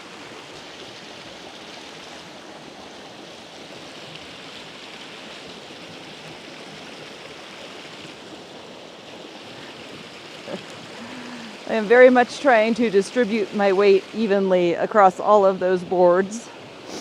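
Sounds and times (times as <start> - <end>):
mountain creek flowing: 0.0 - 17.0.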